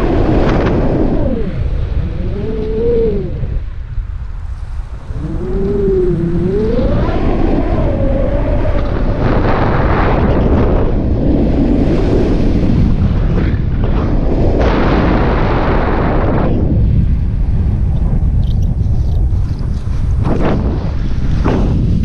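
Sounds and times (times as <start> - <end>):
airflow buffeting microphone: 0.0 - 22.0.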